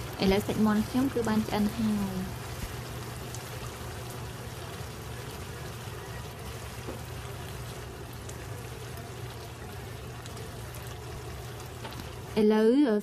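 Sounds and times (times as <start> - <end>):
sauce bubbling in a pan: 0.0 - 12.4.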